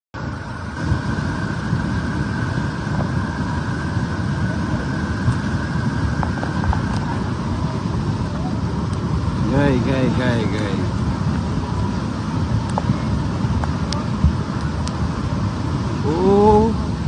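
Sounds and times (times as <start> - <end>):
faint steady whine: 0.2 - 17.0
rushing flood torrent roar: 0.2 - 17.0.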